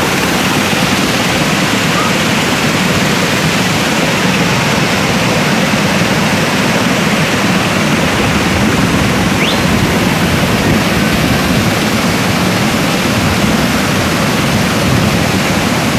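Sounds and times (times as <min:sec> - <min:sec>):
waterfall rushing: 0:00.0 - 0:15.9.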